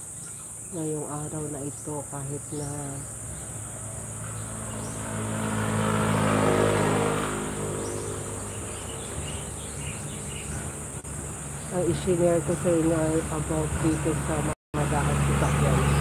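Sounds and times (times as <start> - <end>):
vehicle passing by: 2.6 - 16.0.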